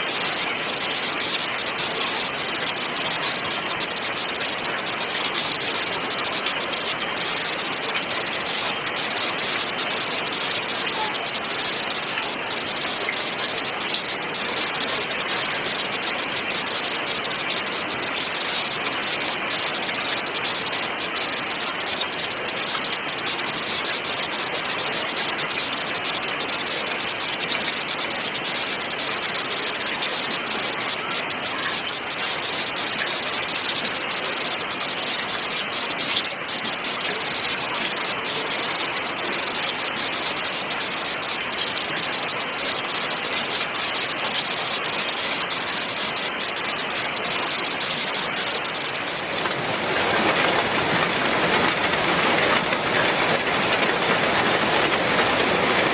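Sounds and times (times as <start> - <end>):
rain on corrugated roof: 0.0 - 55.9
runoff gushing off eave: 0.0 - 55.9.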